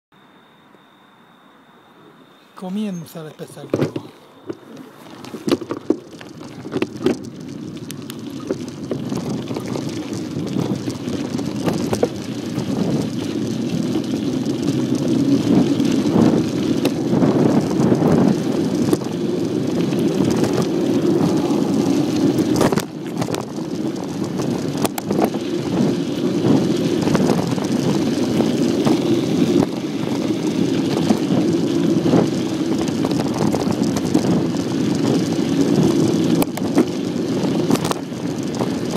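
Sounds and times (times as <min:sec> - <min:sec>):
bike tyres rumbling on dirt: 0:03.4 - 0:38.9
bike clicks and rattles: 0:03.7 - 0:38.9
wind on microphone: 0:04.4 - 0:38.9.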